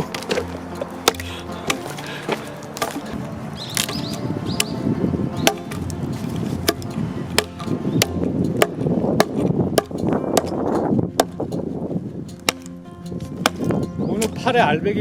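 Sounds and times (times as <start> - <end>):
axe chopping a log: 0.0 - 3.2, 3.8 - 4.8, 5.4 - 11.6, 12.3 - 14.4.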